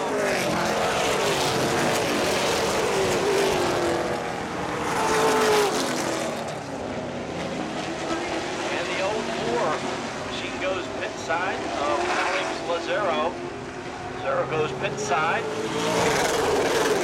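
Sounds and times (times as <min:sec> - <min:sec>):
race car engines passing by: 0:00.0 - 0:17.0.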